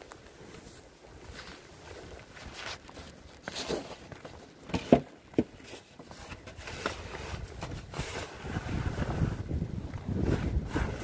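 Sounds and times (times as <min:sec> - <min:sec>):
faint wind: 0:00.0 - 0:11.0
footsteps crunching in snow: 0:00.0 - 0:11.0.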